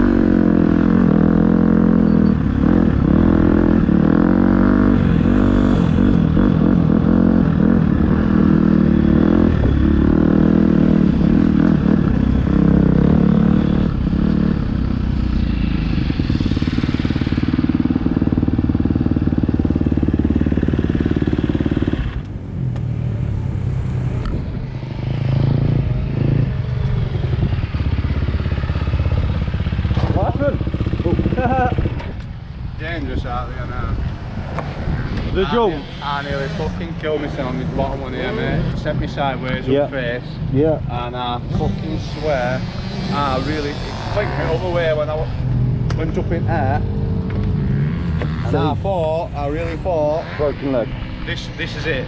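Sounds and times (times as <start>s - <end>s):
motocross bike engine revving: 0.0s - 22.2s, 24.8s - 32.2s, 34.7s - 52.0s.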